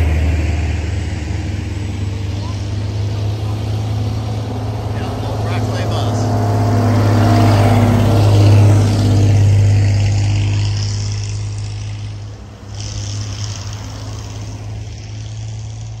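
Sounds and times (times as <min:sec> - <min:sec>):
bus driving past: 0:00.0 - 0:16.0
pickup truck engine and tyres: 0:00.0 - 0:16.0.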